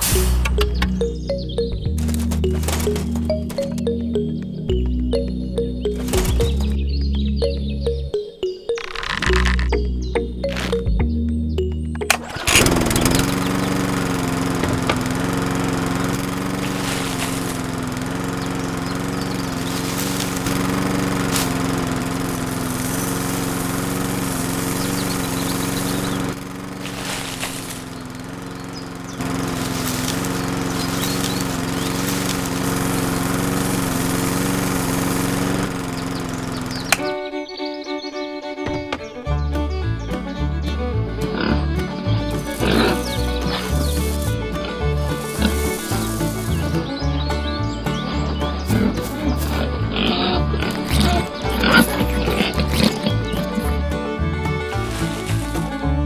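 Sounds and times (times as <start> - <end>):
small motor running: 0.0 - 7.6, 8.9 - 11.0, 12.0 - 56.0.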